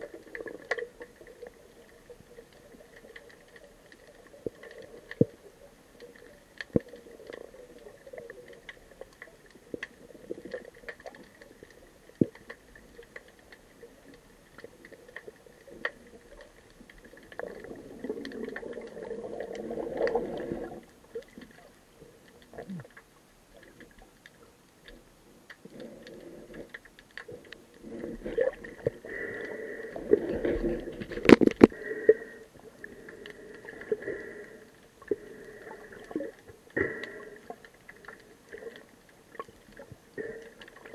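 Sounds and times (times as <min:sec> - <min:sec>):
muffled rushing water: 0:00.0 - 0:40.9
underwater clicks and crackles: 0:00.0 - 0:40.9.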